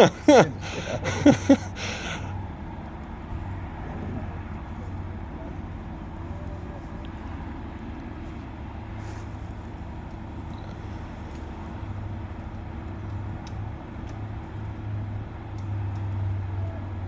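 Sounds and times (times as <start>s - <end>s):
crane engine droning: 0.0s - 17.0s.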